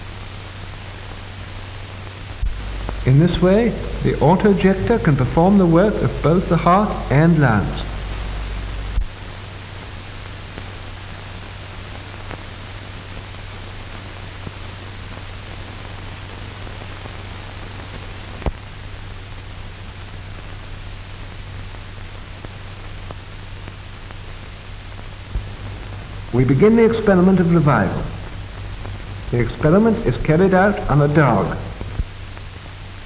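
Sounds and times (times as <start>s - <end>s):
film soundtrack hiss and hum: 0.0s - 33.0s.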